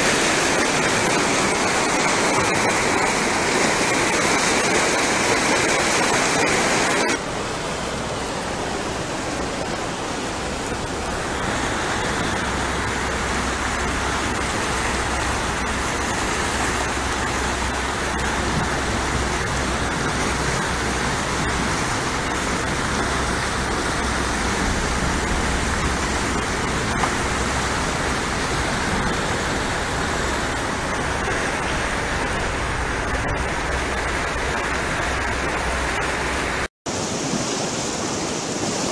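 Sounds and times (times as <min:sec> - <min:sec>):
turbulent water rushing: 0:00.0 - 0:38.9.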